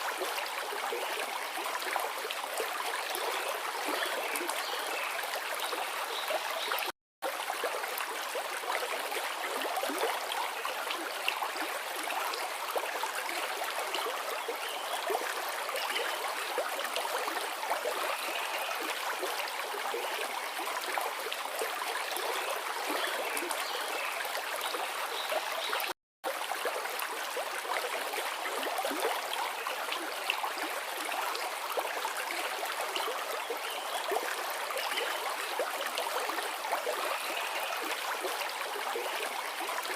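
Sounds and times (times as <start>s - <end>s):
river flowing and gurgling: 0.0s - 39.9s.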